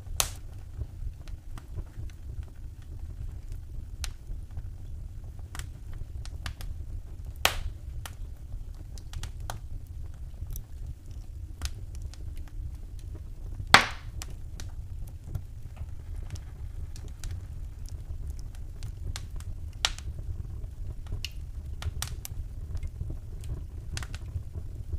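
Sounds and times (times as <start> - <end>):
fire crackling: 0.0 - 24.9
loud fire pops: 0.0 - 24.9
low fire rumble: 0.0 - 24.9.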